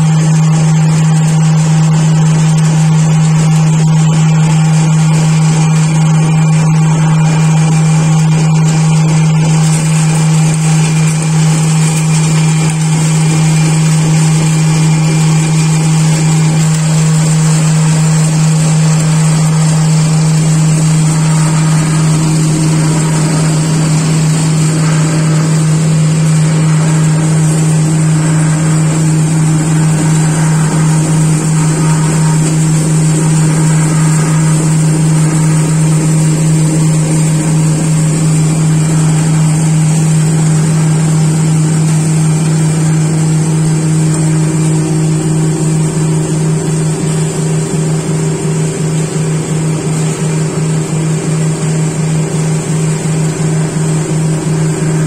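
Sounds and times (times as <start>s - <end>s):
electric mill grinding: 0.0s - 55.0s.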